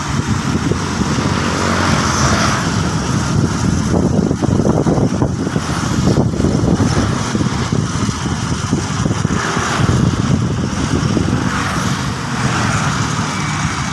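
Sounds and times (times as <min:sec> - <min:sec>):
harvesting machine engine running: 0:00.0 - 0:13.9.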